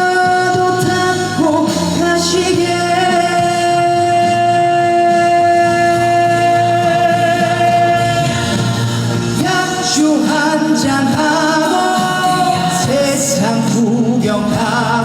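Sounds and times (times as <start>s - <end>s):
person singing a ballad: 0.0s - 15.0s
recorded backing track: 0.0s - 15.0s.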